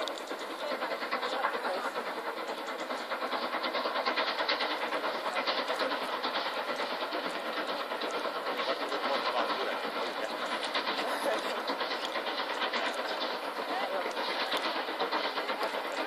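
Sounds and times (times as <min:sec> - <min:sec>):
steam locomotive chuffing: 0:00.0 - 0:16.0.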